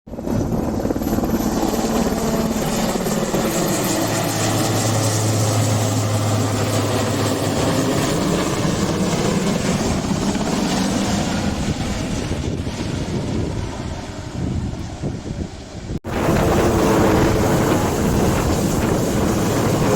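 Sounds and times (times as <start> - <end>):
helicopter rotor and engine: 0.1 - 19.9.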